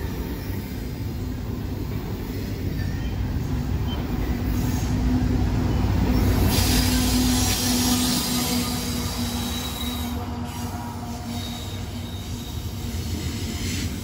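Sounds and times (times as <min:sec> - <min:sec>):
freight train rumbling past: 0:00.0 - 0:14.0
locomotive hiss: 0:00.2 - 0:14.0.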